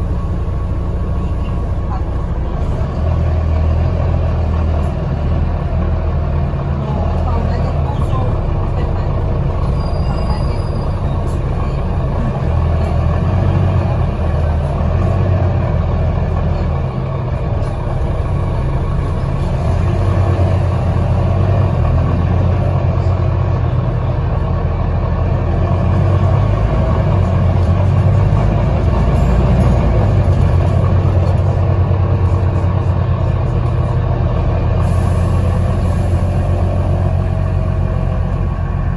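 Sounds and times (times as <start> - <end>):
bus engine rumble: 0.0 - 38.9.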